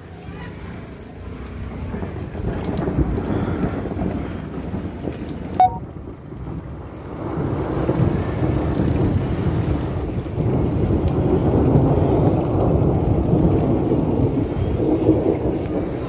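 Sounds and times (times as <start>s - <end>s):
thunder rumbling: 0.8s - 16.0s.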